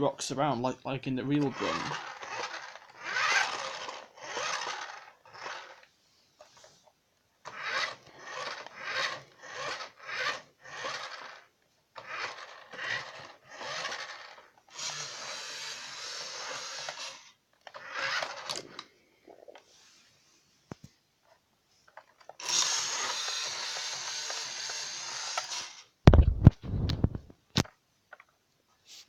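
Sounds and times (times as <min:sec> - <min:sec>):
toy car wheels rolling and scraping: 0:01.4 - 0:28.3.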